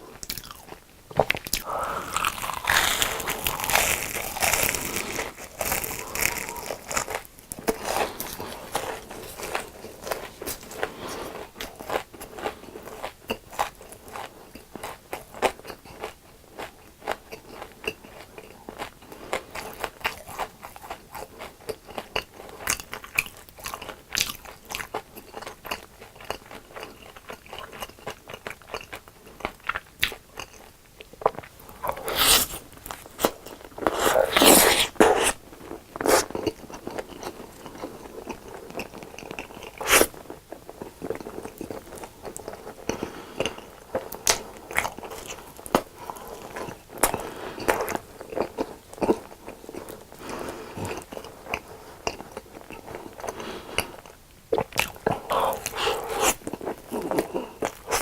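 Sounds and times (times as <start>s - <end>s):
crunching and chewing fried food: 0.1s - 58.0s.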